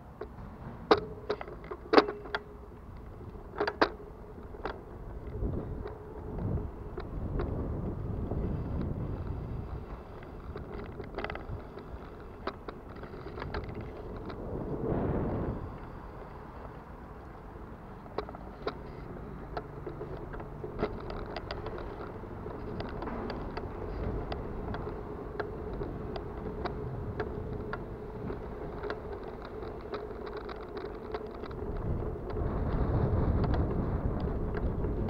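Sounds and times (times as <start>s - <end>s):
road and wind rumble: 0.0s - 35.0s
bicycle drivetrain rattling and clicking: 0.2s - 35.0s.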